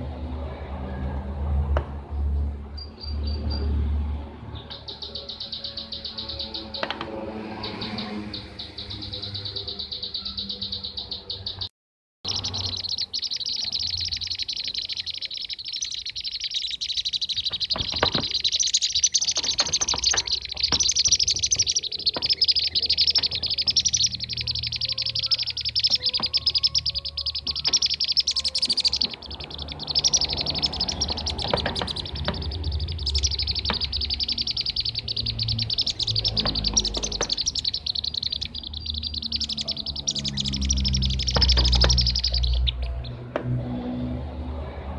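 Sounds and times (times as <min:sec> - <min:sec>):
bee-eaters calling: 0:04.6 - 0:11.7, 0:12.3 - 0:43.2.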